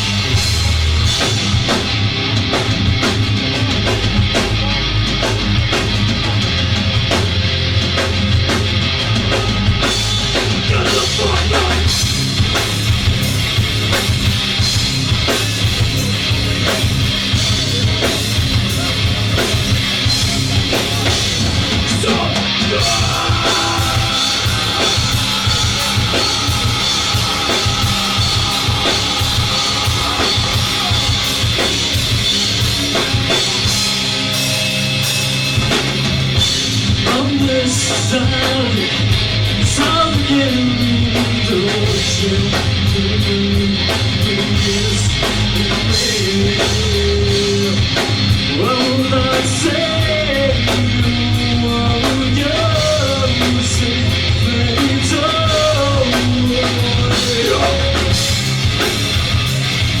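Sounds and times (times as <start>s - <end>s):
drum kit beating: 0.0s - 60.0s
electric guitar: 0.0s - 60.0s
rock band playing live: 0.0s - 60.0s.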